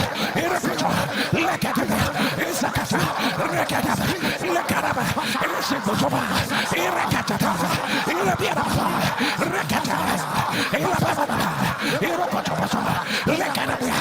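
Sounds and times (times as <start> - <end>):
congregation praying aloud: 0.0 - 14.0.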